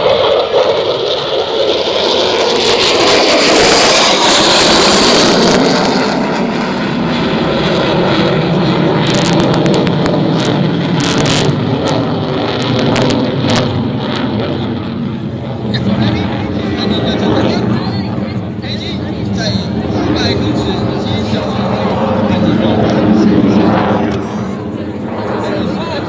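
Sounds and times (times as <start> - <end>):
jet engine roaring overhead: 0.0 - 26.0.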